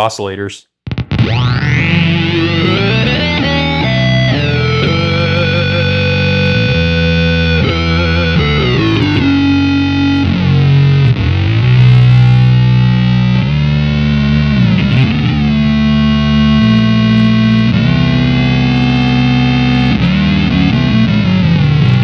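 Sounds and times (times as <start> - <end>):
synth-like electric guitar notes: 0.9 - 22.0.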